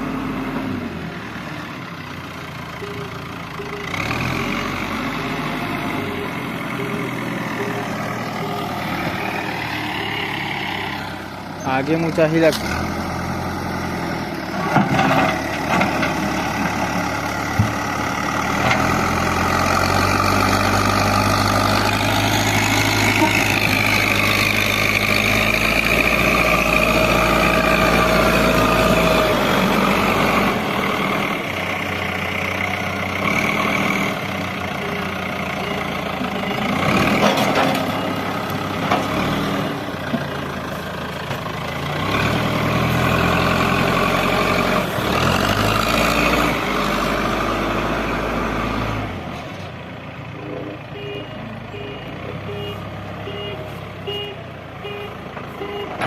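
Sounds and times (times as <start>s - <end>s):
diesel engine digging: 0.0s - 56.0s.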